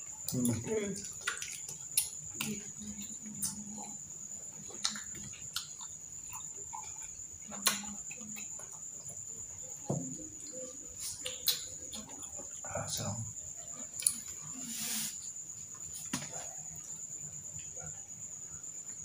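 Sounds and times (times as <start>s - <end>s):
cricket trill: 0.0s - 19.0s.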